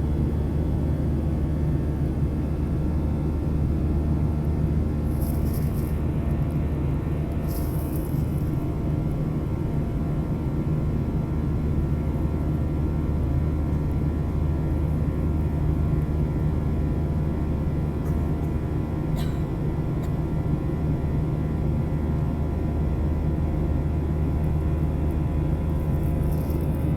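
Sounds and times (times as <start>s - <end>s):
jet engine drone in cabin: 0.0s - 26.9s.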